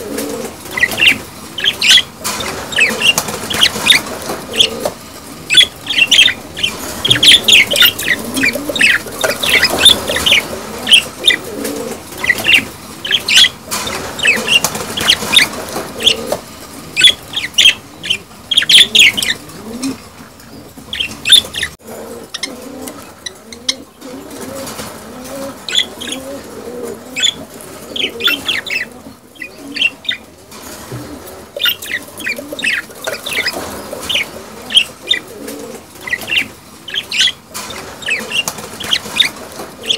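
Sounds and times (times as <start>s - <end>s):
budgerigars chattering: 0.6s - 11.5s, 12.1s - 19.4s, 20.9s - 23.9s, 25.6s - 26.2s, 27.1s - 30.2s, 31.6s - 35.3s, 36.0s - 39.9s.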